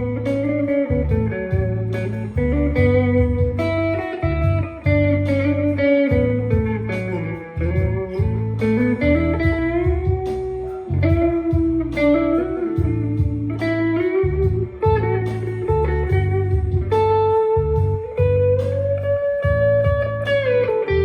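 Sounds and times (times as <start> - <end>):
backing rhythm: 0.0 - 21.0
overdriven electric guitar blues lead: 0.0 - 21.0.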